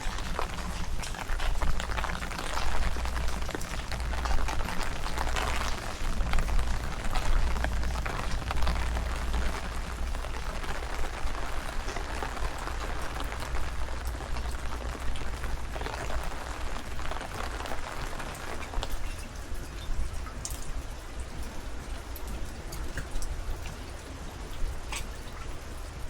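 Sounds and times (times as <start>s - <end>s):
rain drops pattering: 0.0s - 26.0s
wind rumble on microphone: 0.0s - 26.0s.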